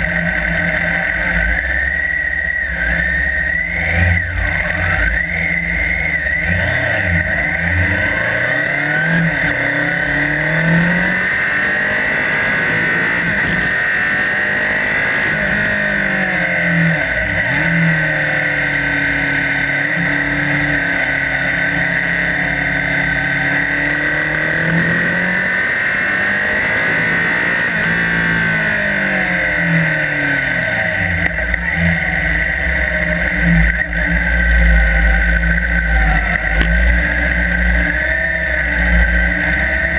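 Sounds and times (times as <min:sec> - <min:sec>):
motorcycle engine revving: 0:00.0 - 0:39.9
steady high whine: 0:00.0 - 0:39.9.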